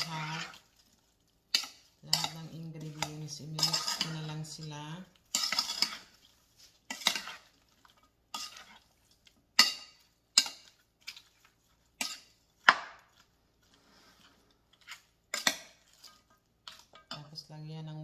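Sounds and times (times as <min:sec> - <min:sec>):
spoon scraping a cooking pot: 0:00.0 - 0:00.8, 0:01.5 - 0:17.4.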